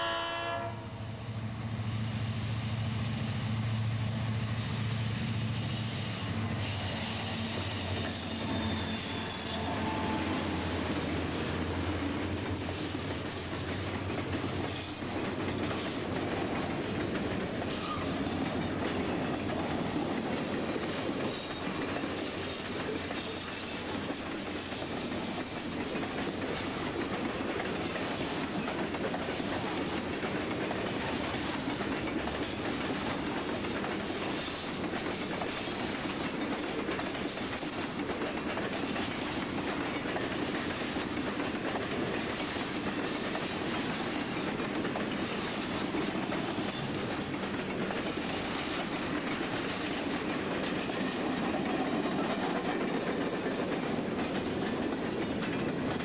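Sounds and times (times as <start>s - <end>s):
freight train wheels rumbling: 0.0s - 56.0s
wheels clickety-clack on track: 2.8s - 56.0s.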